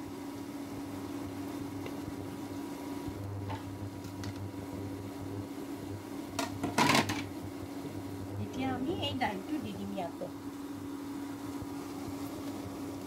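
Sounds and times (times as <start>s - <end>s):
electric cooktop hum: 0.0s - 13.0s
food sizzling in hot oil: 0.0s - 13.0s.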